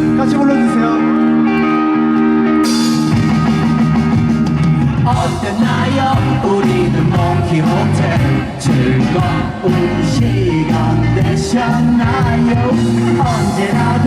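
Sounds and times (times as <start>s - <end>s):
live rock band playing: 0.0s - 14.0s
drums and cymbals: 2.7s - 14.0s.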